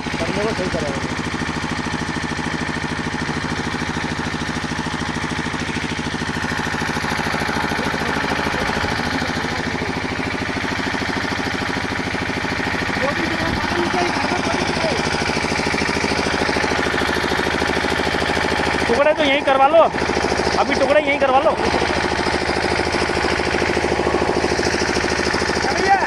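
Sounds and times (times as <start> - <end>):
engine running fast: 0.0 - 26.0.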